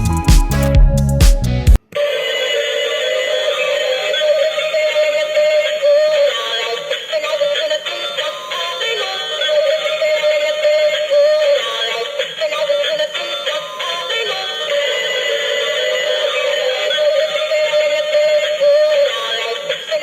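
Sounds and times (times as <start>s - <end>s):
synthesized singing voice: 1.9s - 20.0s
toy playing electronic song: 1.9s - 20.0s.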